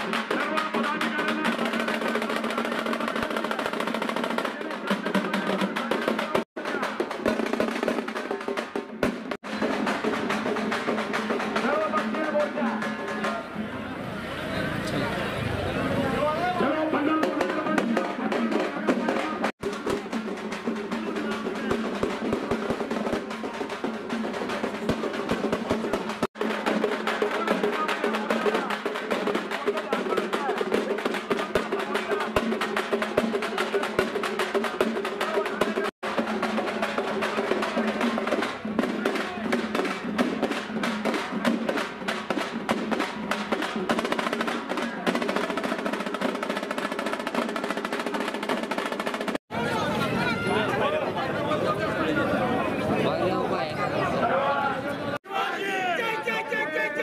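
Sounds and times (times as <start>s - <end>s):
drums beaten in fast rhythm: 0.0s - 13.6s, 16.2s - 49.7s.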